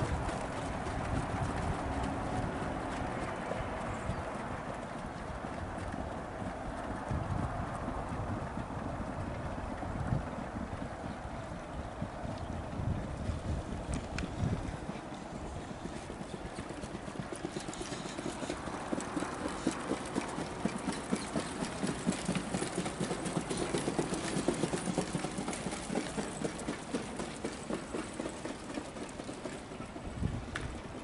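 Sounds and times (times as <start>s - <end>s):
hoofbeats on sand: 0.0s - 30.8s.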